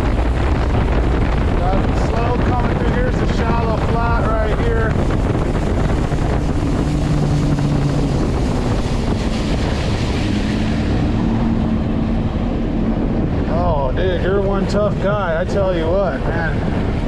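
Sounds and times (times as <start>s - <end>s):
motorboat engine: 0.0s - 17.0s
water rushing off hull: 0.0s - 17.0s
wind buffeting microphone: 0.0s - 17.0s.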